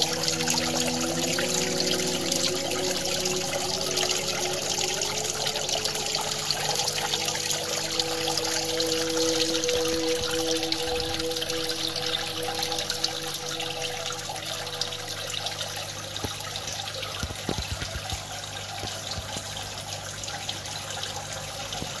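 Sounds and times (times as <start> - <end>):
small waterfall splashing: 0.0 - 22.0.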